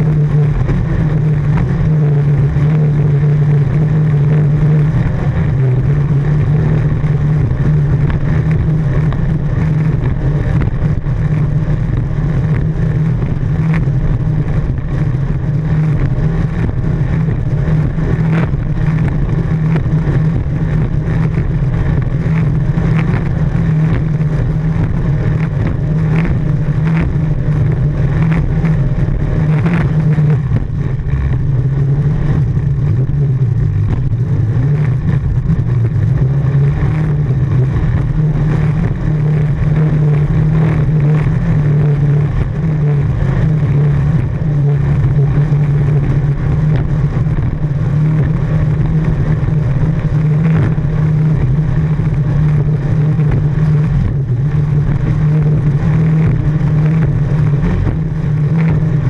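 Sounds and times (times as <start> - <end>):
boat engine drone: 0.0 - 59.0.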